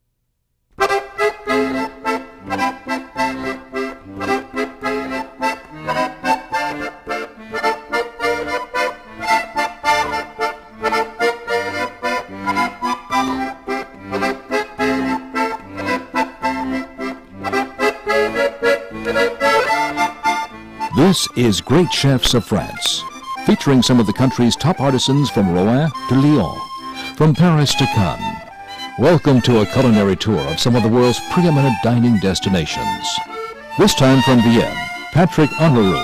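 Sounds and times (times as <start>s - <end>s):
instrumental theme music with beat: 0.8s - 36.0s.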